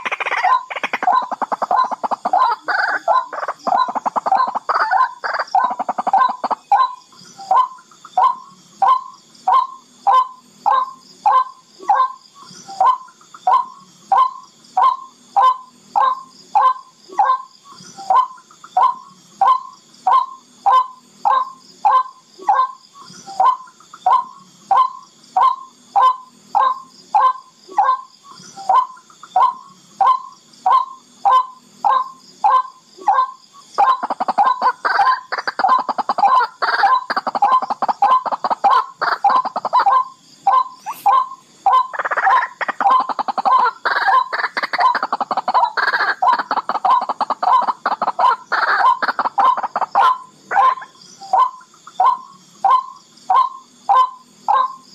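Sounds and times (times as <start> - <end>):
rail bird calling: 0.0 - 54.8.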